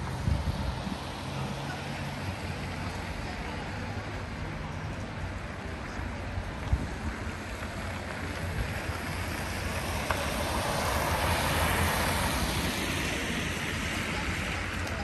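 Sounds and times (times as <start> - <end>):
wind rumble on microphone: 0.0 - 3.2, 5.2 - 15.0.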